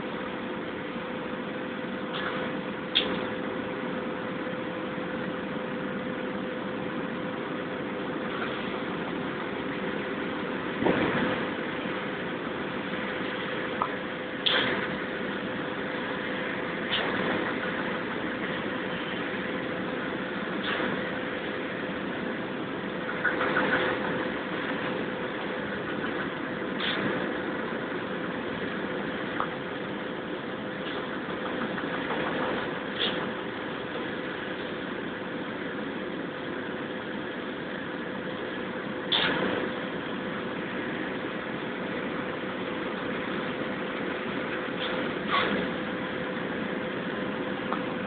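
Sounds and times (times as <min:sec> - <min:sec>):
constant mid-pitched hum: 0:00.0 - 0:48.0
machinery droning: 0:00.0 - 0:48.0.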